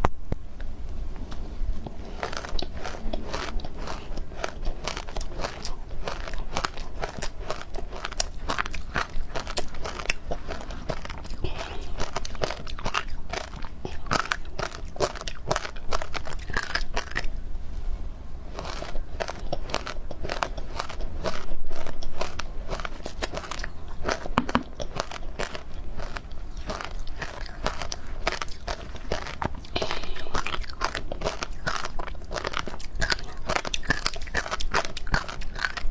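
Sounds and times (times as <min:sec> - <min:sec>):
chewing crunchy ice: 0:01.8 - 0:17.4, 0:18.4 - 0:35.9.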